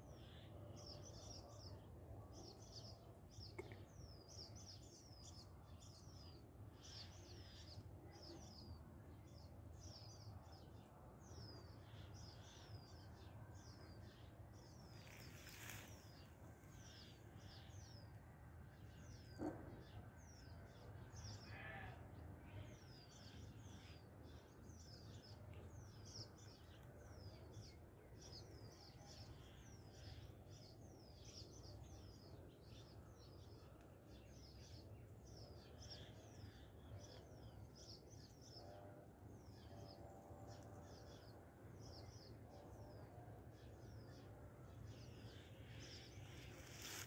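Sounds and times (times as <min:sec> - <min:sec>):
faint bird chirping: 0:00.0 - 0:47.0.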